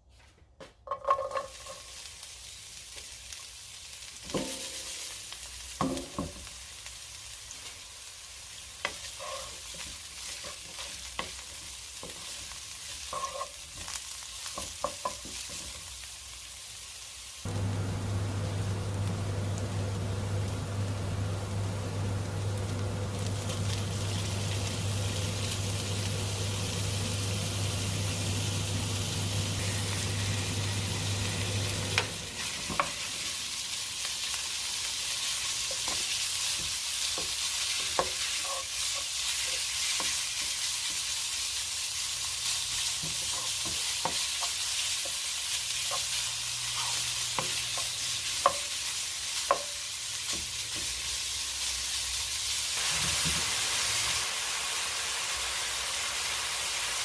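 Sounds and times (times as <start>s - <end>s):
food sizzling in a pan: 1.2s - 57.0s.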